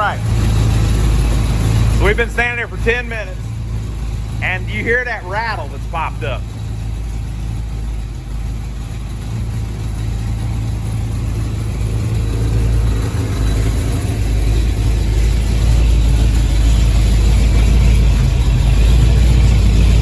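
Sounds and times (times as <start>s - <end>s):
car engine idling: 0.0s - 20.0s
engine rattle: 0.0s - 20.0s.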